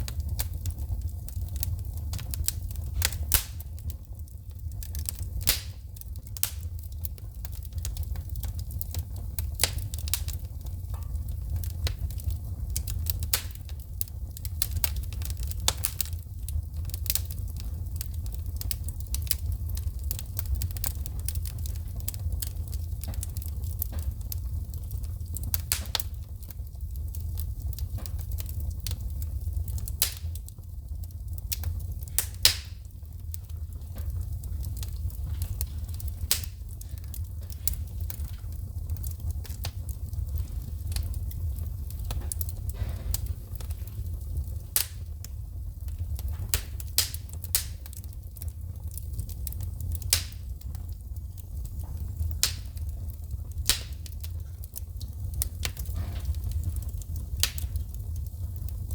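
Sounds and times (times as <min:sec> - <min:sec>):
low rumble of flames: 0:00.0 - 0:58.9
wood fire crackling and popping: 0:00.0 - 0:58.9.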